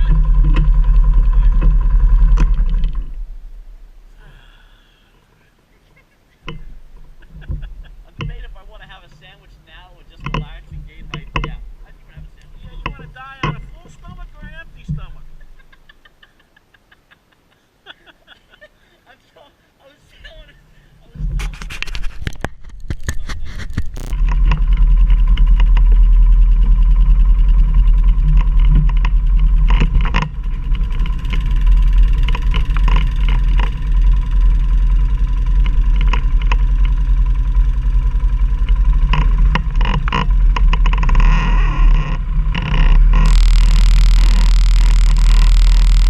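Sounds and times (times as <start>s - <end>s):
quad bike engine under load: 0.0s - 5.4s, 6.4s - 15.7s, 21.3s - 46.0s.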